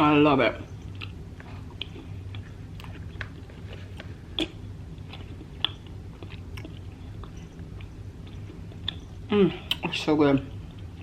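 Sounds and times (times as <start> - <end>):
faint low hum: 0.0 - 11.0
close-miked chewing: 0.6 - 11.0.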